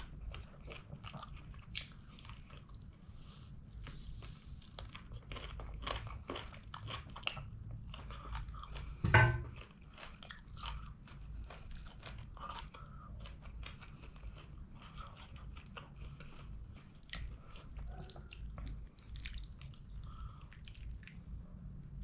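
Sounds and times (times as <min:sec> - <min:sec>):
chewing and crunchy bites: 0:00.0 - 0:21.7.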